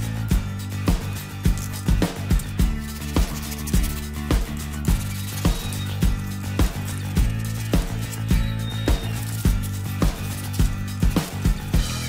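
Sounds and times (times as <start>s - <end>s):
soft music with steady beat: 0.0s - 12.0s.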